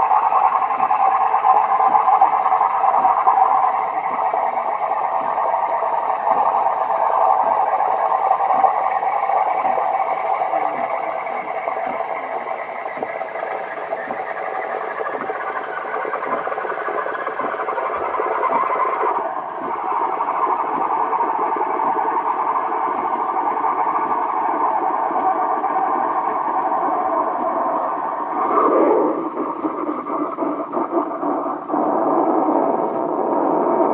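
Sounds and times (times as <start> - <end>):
faint irregular ticks: 0.0 - 33.9.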